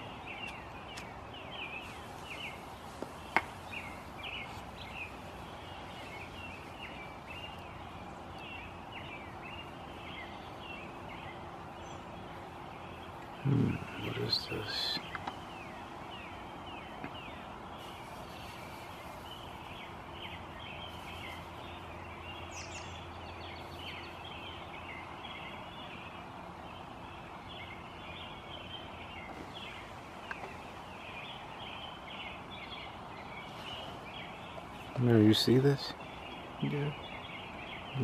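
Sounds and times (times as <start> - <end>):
birds chirping: 0.0 - 38.0
faint low hum: 0.0 - 38.0
outdoor background noise: 0.0 - 38.0.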